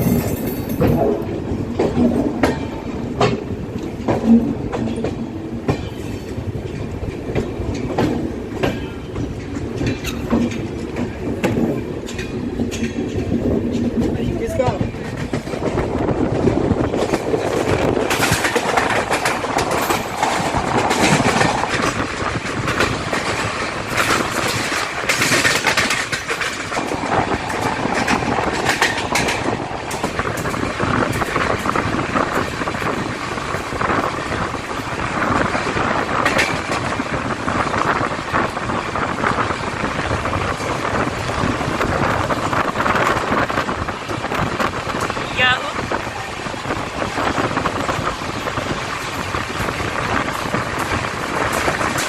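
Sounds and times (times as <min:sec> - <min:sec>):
train rolling rush: 0:00.0 - 0:52.0
wheels clattering over rail joints: 0:00.0 - 0:52.0.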